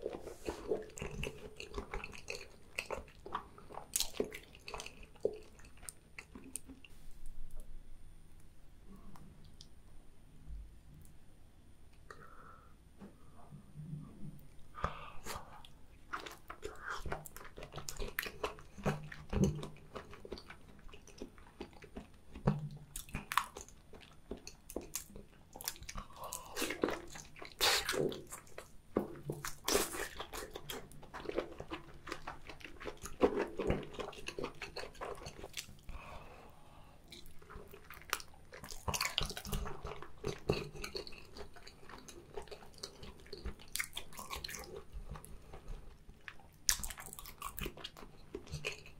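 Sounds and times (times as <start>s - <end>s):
wet chewing mouth sounds: 0.0s - 6.9s, 14.8s - 36.1s, 37.0s - 48.9s.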